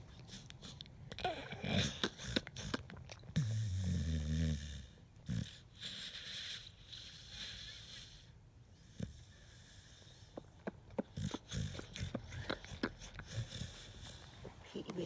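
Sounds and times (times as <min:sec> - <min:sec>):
dog snorting: 0:00.0 - 0:08.3, 0:09.0 - 0:15.0
dog snoring: 0:00.0 - 0:15.0.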